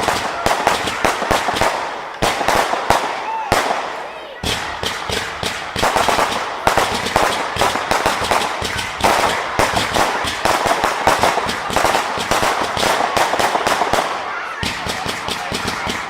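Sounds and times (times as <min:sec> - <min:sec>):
fireworks cracking and banging: 0:00.0 - 0:16.0.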